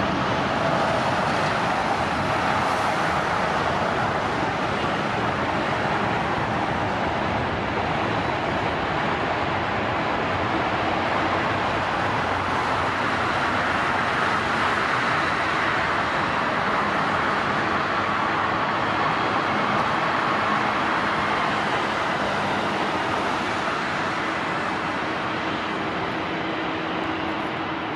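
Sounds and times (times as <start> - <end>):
jet engines rushing: 0.0 - 27.9.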